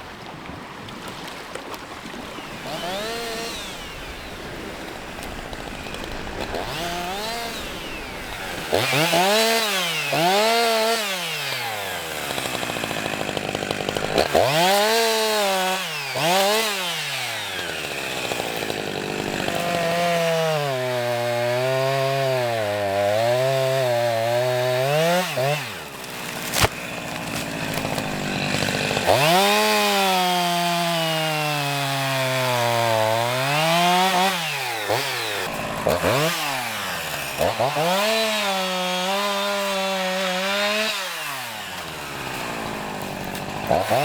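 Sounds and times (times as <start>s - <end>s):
small engine revving: 2.3s - 44.0s.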